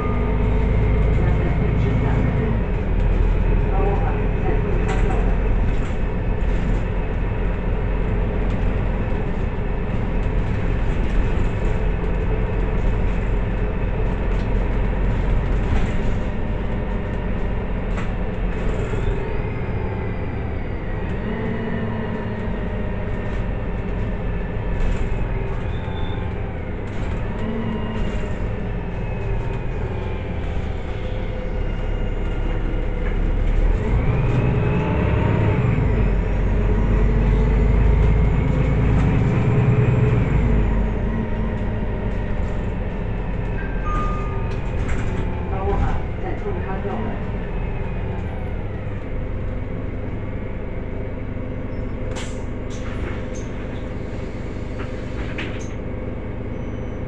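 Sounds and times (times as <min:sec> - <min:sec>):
bus drivetrain rumble: 0:00.0 - 0:57.0
road noise: 0:00.0 - 0:57.0.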